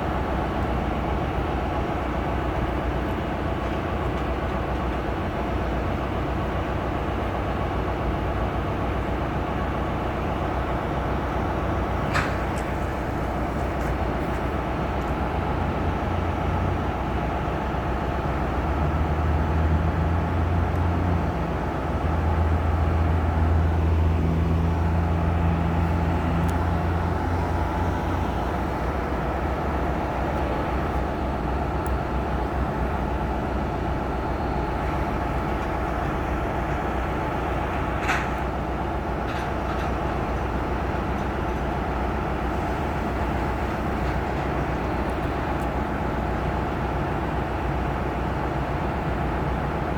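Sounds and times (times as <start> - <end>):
deep diesel engine hum: 0.0 - 49.9
train rumbling: 0.0 - 49.9.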